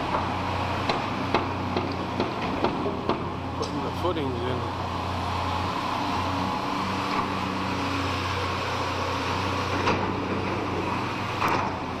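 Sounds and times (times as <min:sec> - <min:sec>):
machinery engine humming: 0:00.0 - 0:12.0.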